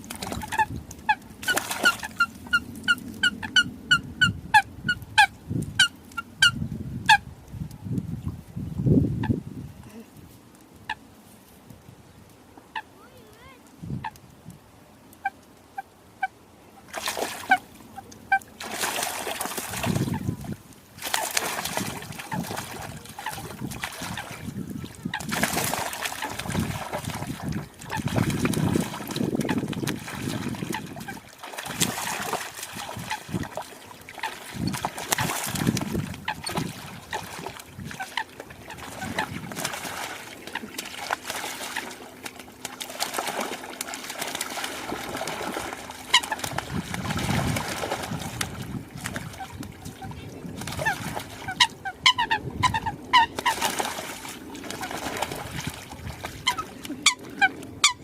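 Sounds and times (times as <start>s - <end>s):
water splashing and sloshing: 0.0s - 4.0s, 15.3s - 58.0s.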